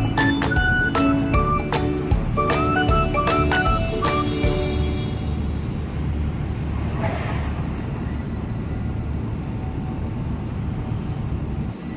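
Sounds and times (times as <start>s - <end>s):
engine rumbling: 0.0s - 11.9s.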